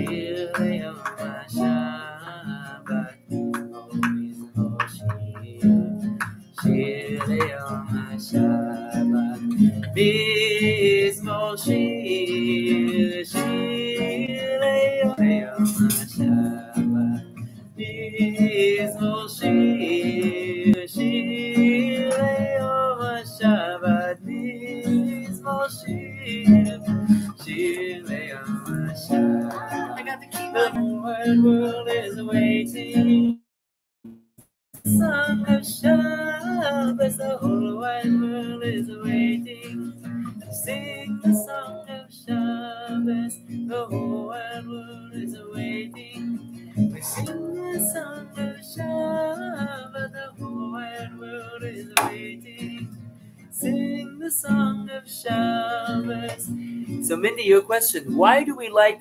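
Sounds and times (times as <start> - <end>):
acoustic guitar strumming: 0.0 - 33.4, 34.8 - 59.0
person singing: 0.0 - 33.4, 34.8 - 52.9, 53.6 - 56.6.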